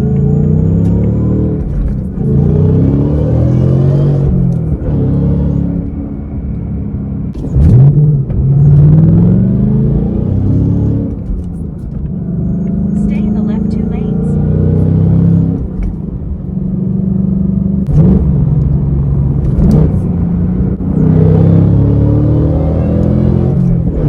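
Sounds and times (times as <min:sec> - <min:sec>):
car engine revving and accelerating: 0:00.0 - 0:24.0.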